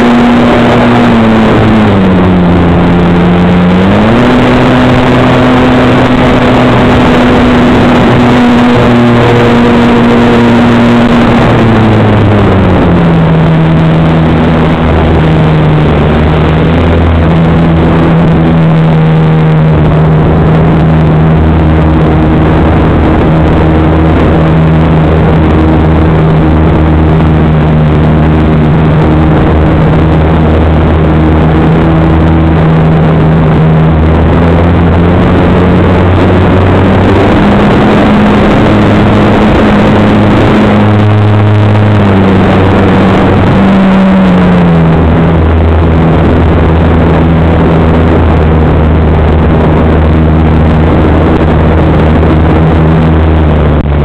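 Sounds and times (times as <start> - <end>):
rushing air noise: 0.0 - 54.0.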